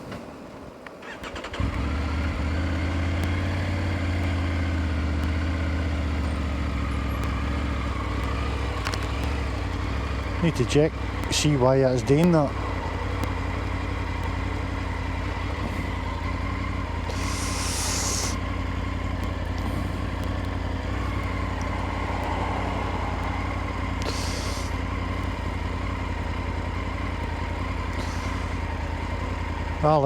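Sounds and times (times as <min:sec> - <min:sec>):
motorcycle engine running: 0:01.0 - 0:30.0.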